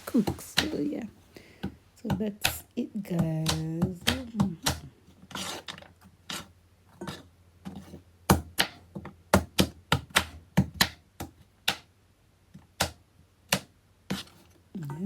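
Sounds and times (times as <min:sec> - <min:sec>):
knife chopping carrots on board: 0:00.2 - 0:00.9, 0:01.5 - 0:11.9, 0:12.8 - 0:14.4.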